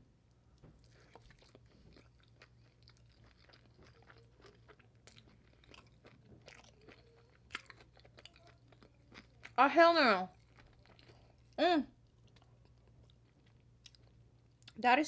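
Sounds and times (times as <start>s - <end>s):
chewing food: 0.5s - 14.8s.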